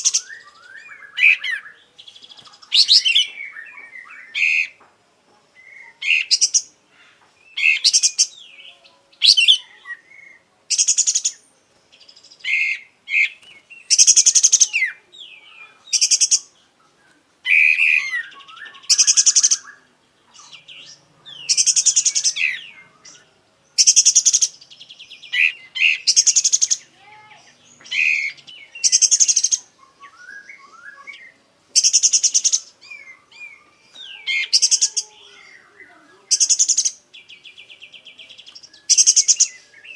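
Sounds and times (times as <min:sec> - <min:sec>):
bulbul singing: 0:00.0 - 0:04.8, 0:05.6 - 0:16.7, 0:17.5 - 0:39.9.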